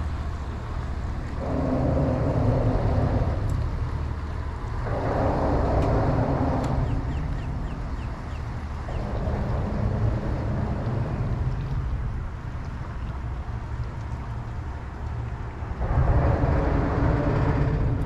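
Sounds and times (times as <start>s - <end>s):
road traffic rumble: 0.0s - 18.0s
wind on microphone: 1.2s - 14.8s, 15.4s - 18.0s.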